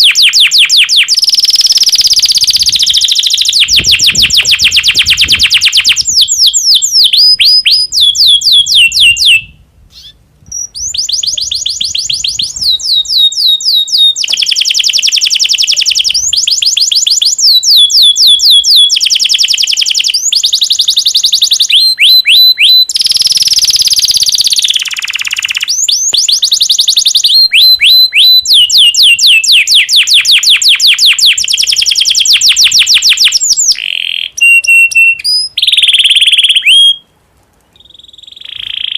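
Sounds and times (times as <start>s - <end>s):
canary singing rapid trills: 0.0s - 37.0s, 37.8s - 38.9s.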